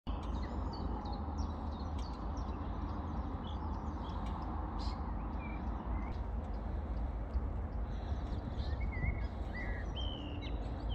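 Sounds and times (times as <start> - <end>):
small birds chirping: 0.1 - 10.9
steady low rumble: 0.1 - 10.9.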